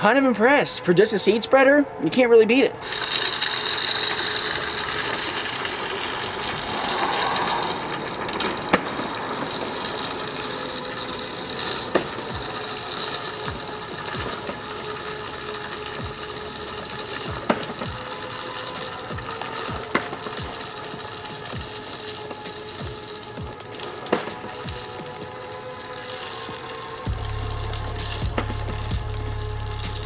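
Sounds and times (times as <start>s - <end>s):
hiss of flung salt: 2.8s - 30.0s.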